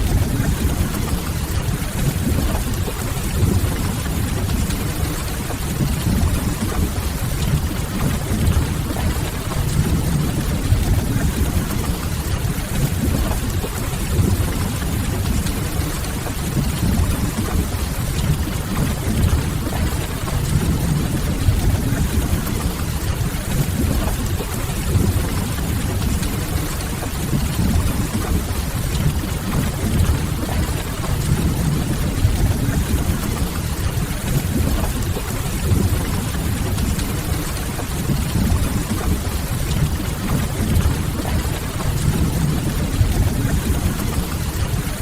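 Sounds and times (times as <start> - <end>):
rain on a window: 0.0 - 45.0.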